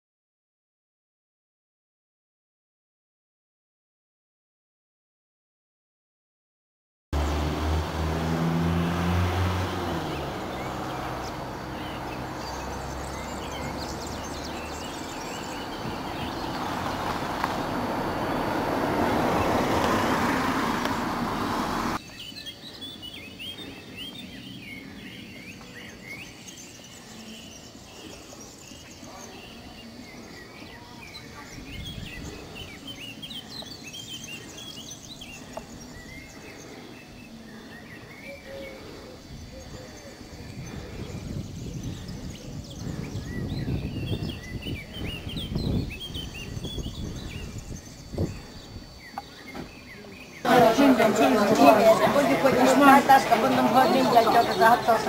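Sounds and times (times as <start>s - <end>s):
birds chirping: 7.2s - 55.0s.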